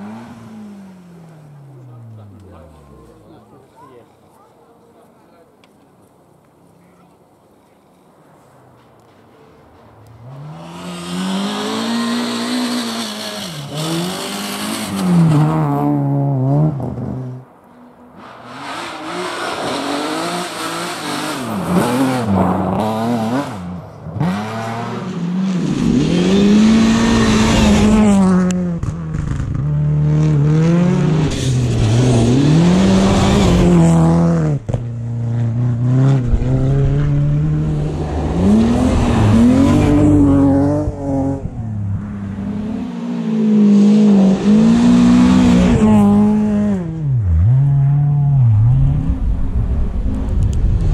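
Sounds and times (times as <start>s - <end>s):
rally car engines revving: 0.0s - 3.8s, 9.7s - 50.9s
cars passing: 0.0s - 50.9s.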